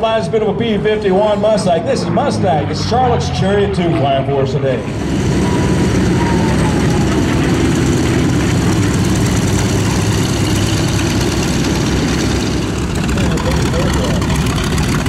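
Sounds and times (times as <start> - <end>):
piston aircraft engines rumbling: 0.0 - 15.0.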